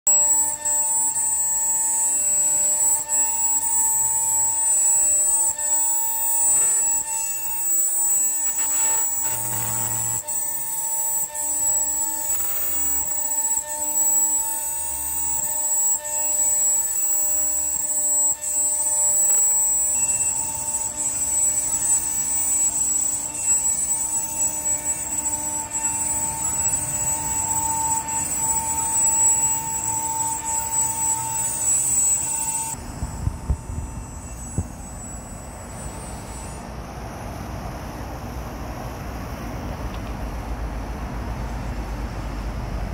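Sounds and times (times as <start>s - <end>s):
cutter milling aluminium: 0.0s - 36.7s
router spindle whine: 0.0s - 42.9s.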